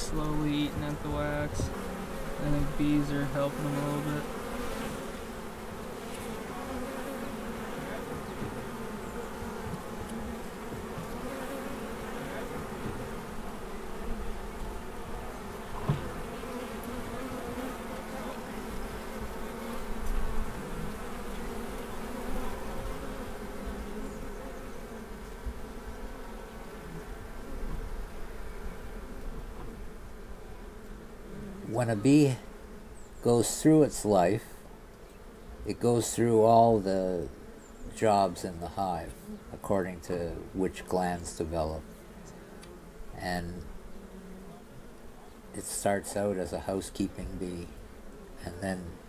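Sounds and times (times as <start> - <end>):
honeybees buzzing: 0.0 - 49.0.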